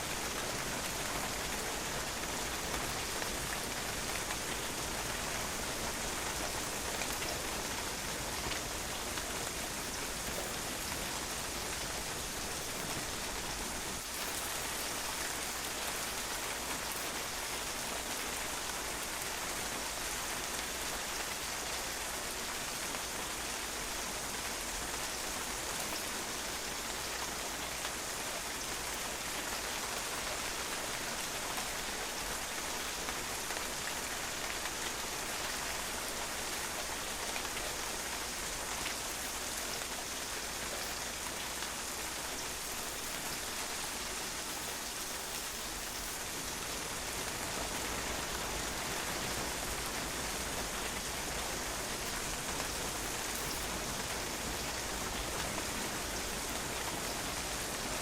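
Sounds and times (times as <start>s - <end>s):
rain pattering on patio: 0.0s - 58.0s.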